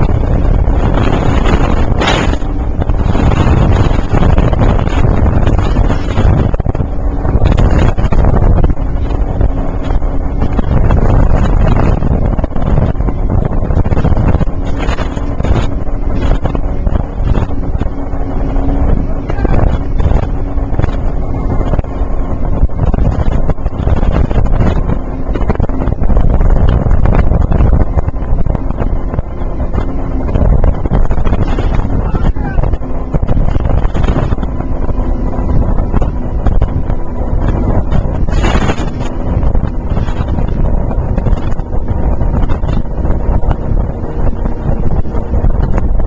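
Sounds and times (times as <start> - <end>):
speedboat engine drone: 0.0 - 46.0
wind buffeting microphone: 0.0 - 46.0.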